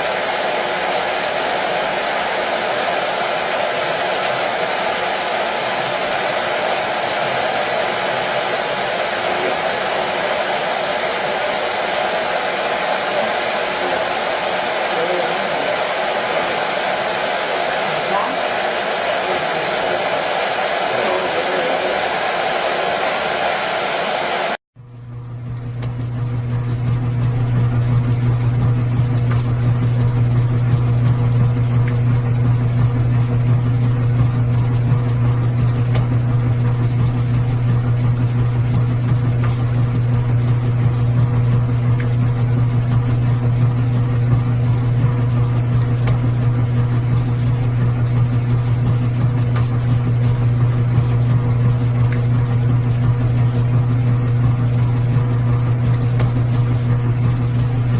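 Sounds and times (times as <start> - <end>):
washing machine motor hum: 0.0 - 57.9.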